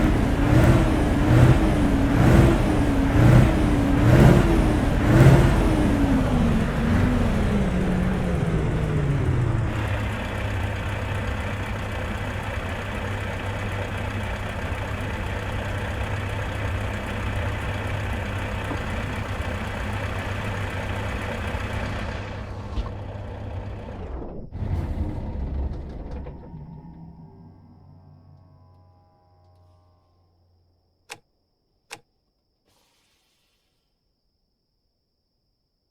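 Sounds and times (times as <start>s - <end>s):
diesel truck engine idling: 0.0s - 28.8s.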